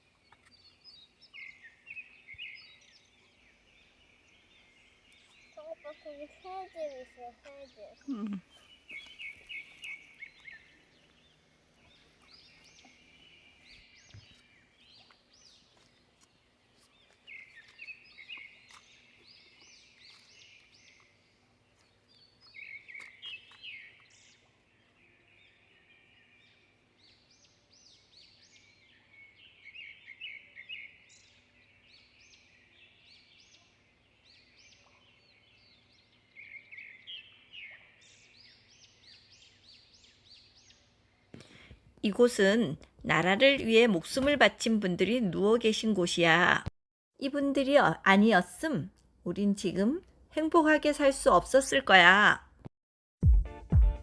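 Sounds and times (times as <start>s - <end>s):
songbird chirping: 0.0s - 52.4s.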